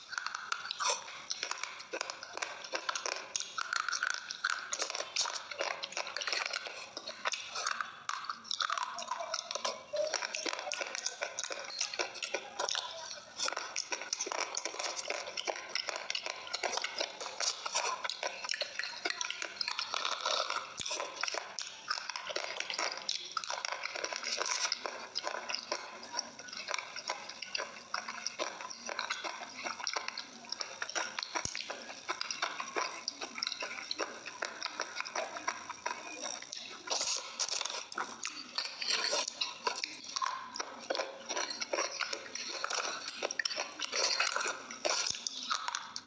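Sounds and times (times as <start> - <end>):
wet chewing: 0.0 - 46.0.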